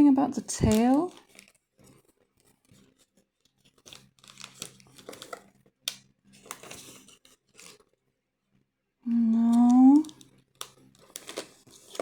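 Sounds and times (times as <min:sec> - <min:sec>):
plastic pieces and packaging rustling: 0:00.1 - 0:08.0, 0:09.3 - 0:12.0.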